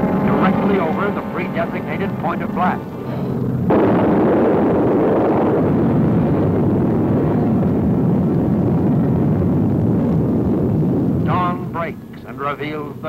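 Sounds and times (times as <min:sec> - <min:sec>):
low rumble of explosion: 0:00.0 - 0:13.0.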